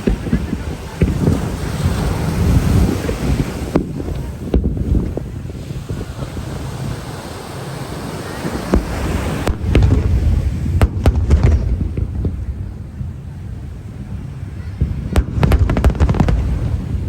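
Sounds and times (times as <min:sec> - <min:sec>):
fireworks bangs: 0:00.0 - 0:17.0
low rumble of fireworks: 0:00.0 - 0:17.0
wind on microphone: 0:00.0 - 0:17.0.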